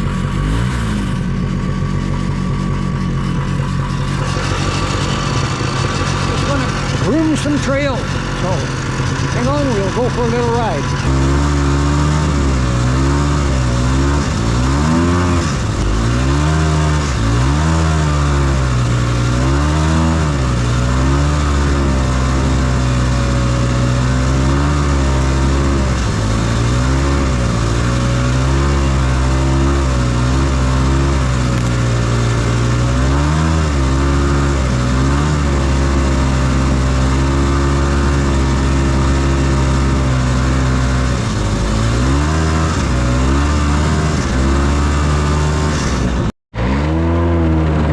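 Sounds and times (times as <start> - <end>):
snowmobile two-stroke engine revving: 0.0 - 47.9.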